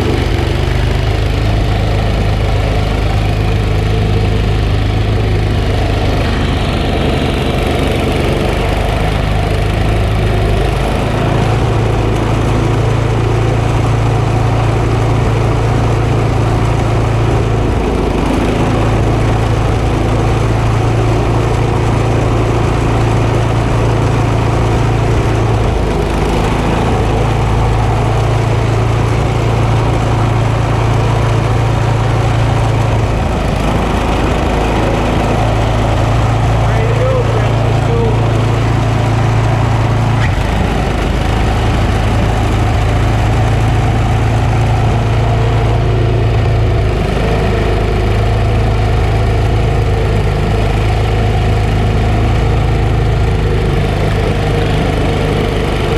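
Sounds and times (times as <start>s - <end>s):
snowblower engine running: 0.0s - 55.9s.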